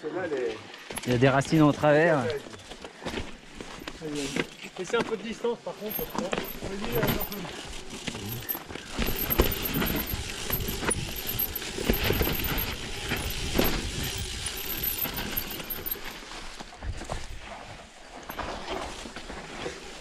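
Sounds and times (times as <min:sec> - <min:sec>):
bike tyres on dirt: 0:00.1 - 0:20.0
bike knocking and rattling on roots: 0:00.7 - 0:20.0.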